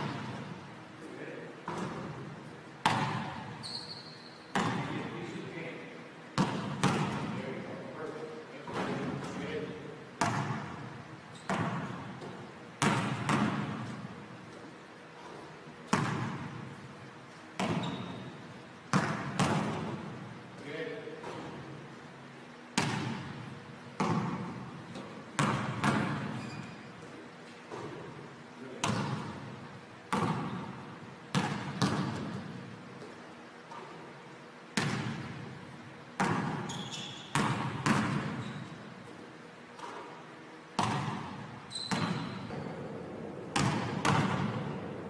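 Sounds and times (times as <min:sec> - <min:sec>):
basketball thuds echoing in gym: 0:00.0 - 0:00.8, 0:01.6 - 0:03.7, 0:04.5 - 0:05.6, 0:06.3 - 0:07.8, 0:08.7 - 0:16.9, 0:17.6 - 0:22.0, 0:22.7 - 0:45.0.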